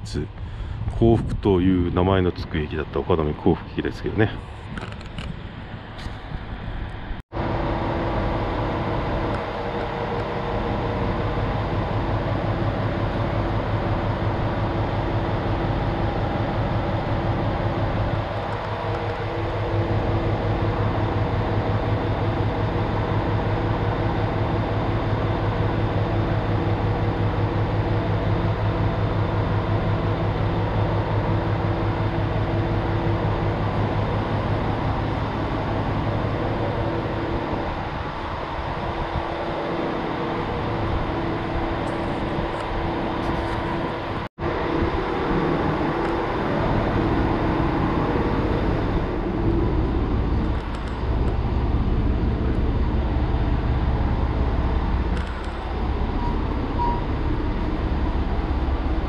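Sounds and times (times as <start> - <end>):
diesel railcar engine idling: 0.0 - 59.0.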